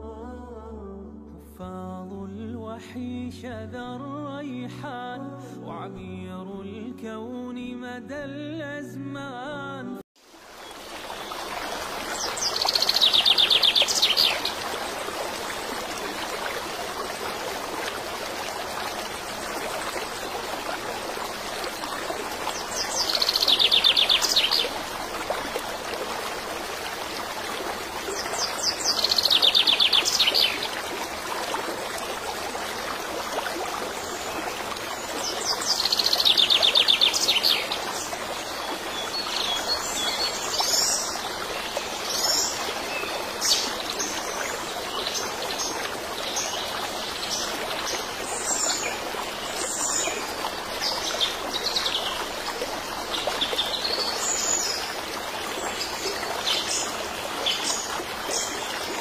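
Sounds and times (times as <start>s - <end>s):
stream running: 10.2s - 59.0s.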